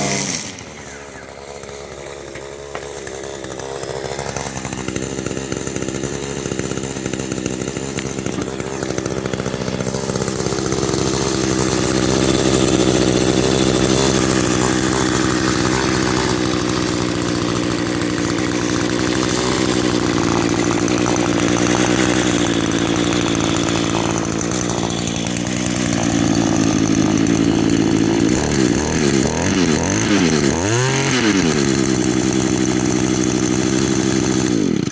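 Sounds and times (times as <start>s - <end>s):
string trimmer engine running: 0.0s - 34.9s.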